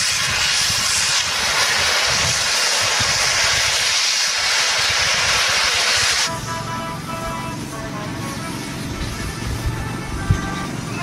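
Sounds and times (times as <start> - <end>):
steam hissing from engine: 0.0 - 11.0.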